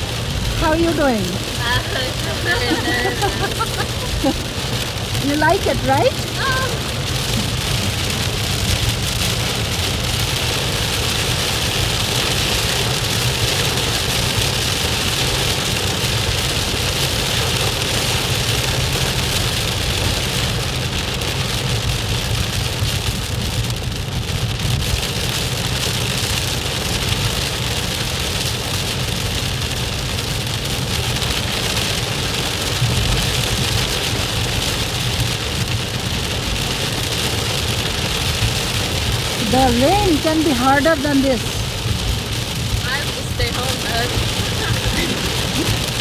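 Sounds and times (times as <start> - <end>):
car engine and road noise: 0.0 - 46.0
heavy rain drumming on car roof: 0.0 - 46.0.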